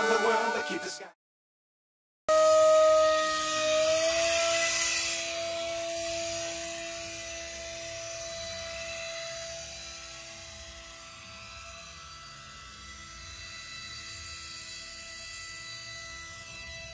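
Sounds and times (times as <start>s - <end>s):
electric motor and propeller whining: 2.3s - 16.9s.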